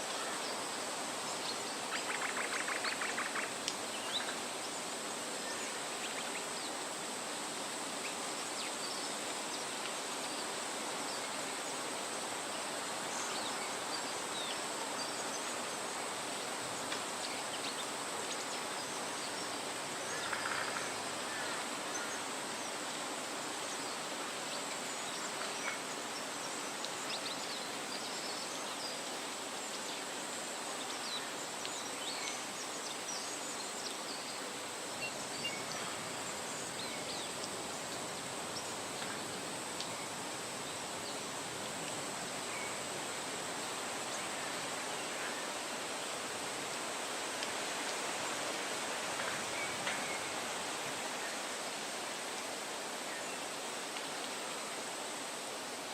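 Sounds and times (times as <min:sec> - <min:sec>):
wind rustling through trees: 0:00.0 - 0:55.9.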